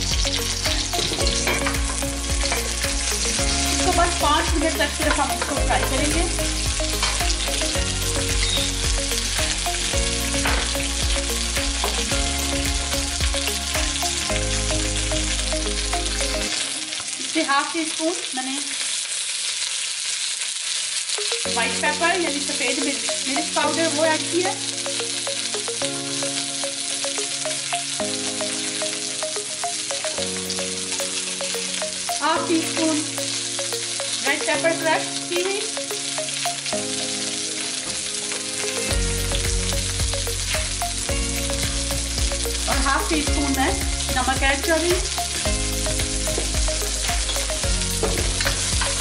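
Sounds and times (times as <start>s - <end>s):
peppers sizzling in oil: 0.0s - 49.0s.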